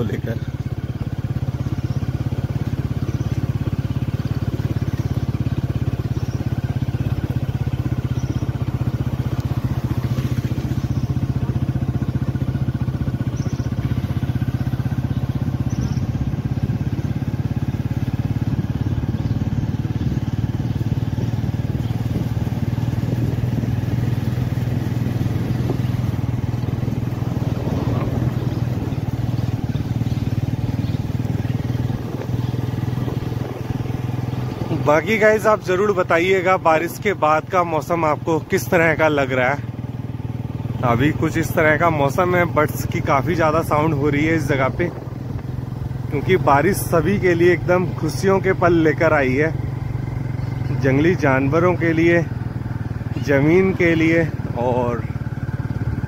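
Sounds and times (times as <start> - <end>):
tyre and road rumble: 0.0 - 56.0
vehicle engine cruising: 0.0 - 56.0.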